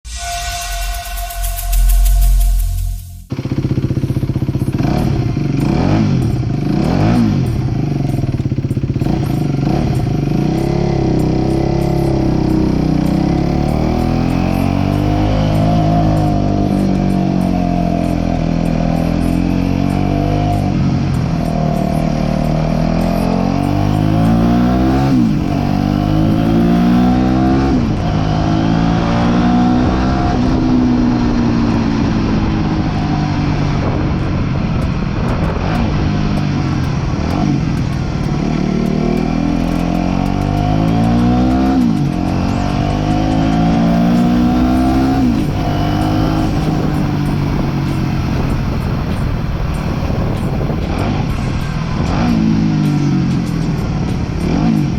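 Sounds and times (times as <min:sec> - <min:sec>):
motorcycle engine accelerating: 0:00.8 - 0:54.9.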